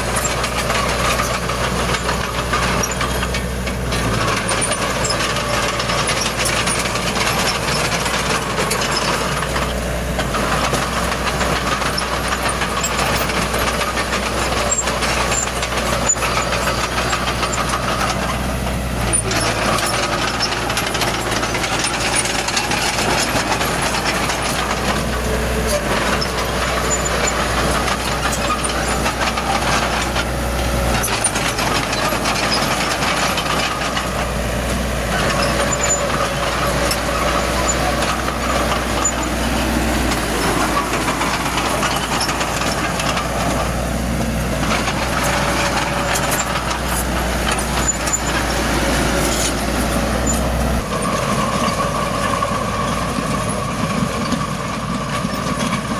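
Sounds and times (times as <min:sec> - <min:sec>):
clicks and clatter: 0:00.0 - 0:55.9
diesel machinery engine rumble: 0:00.0 - 0:55.9.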